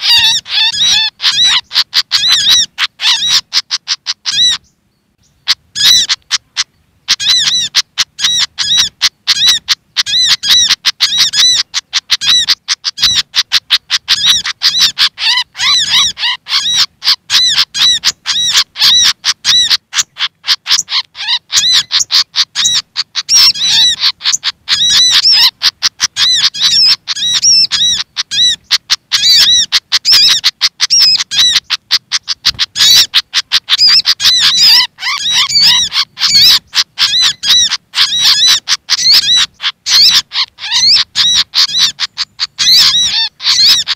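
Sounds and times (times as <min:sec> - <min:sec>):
rapid chattering bird calls: 0:00.0 - 0:43.9.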